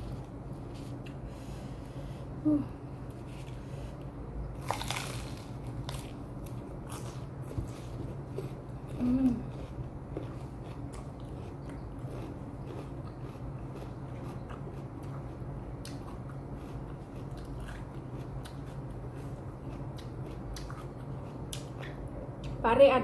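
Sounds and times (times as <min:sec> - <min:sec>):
steady low hum: 0:00.0 - 0:23.0
person chewing food: 0:03.1 - 0:22.6.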